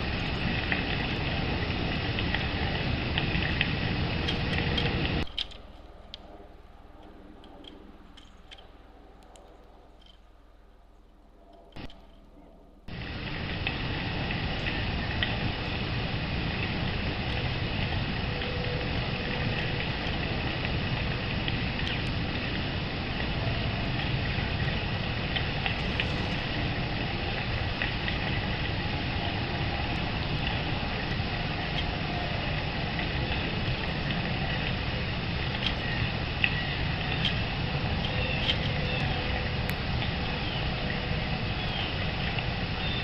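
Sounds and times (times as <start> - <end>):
outdoor background noise: 0.0 - 43.0.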